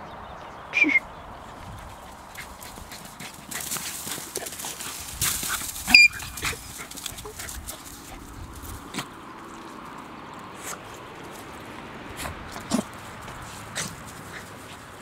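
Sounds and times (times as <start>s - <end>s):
dog paws rustling dry leaves: 1.4s - 15.0s.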